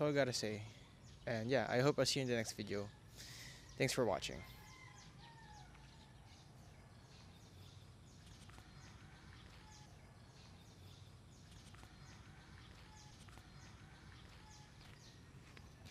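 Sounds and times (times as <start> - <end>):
high bird chirps: 0.6 - 15.9.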